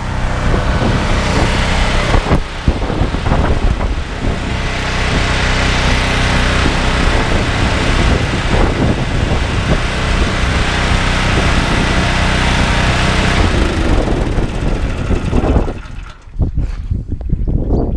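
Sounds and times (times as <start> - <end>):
petrol engine running: 0.0 - 16.4.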